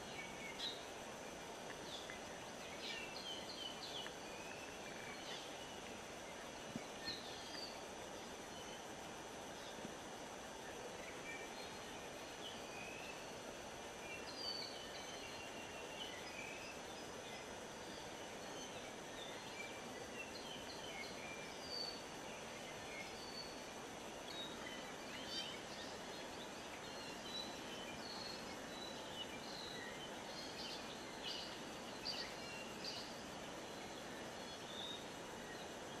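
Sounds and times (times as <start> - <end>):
small birds chirping: 0.0 - 36.0
steady background hiss: 0.0 - 36.0.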